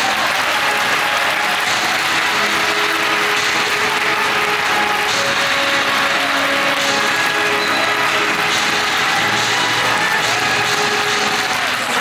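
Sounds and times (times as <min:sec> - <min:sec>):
audience applauding: 0:00.0 - 0:12.0
music playing: 0:00.0 - 0:12.0.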